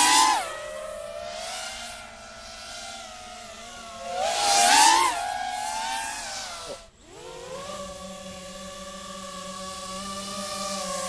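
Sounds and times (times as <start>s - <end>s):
drone motors buzzing: 0.0s - 11.0s.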